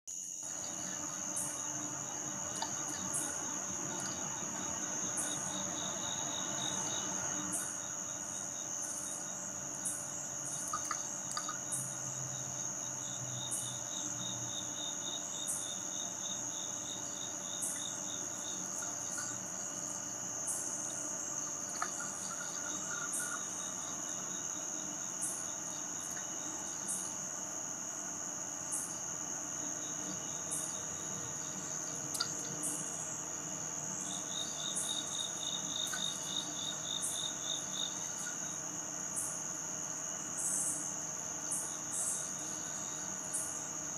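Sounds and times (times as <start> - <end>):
pulsing insect chirp: 0.1 - 43.9
steady high insect trill: 0.1 - 43.9.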